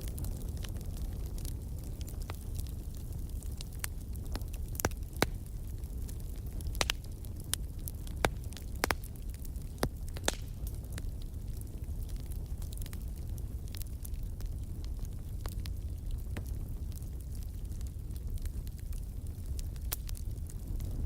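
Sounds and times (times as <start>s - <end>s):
fire burning in fireplace: 0.0s - 21.0s
fire crackles and pops: 0.0s - 21.0s.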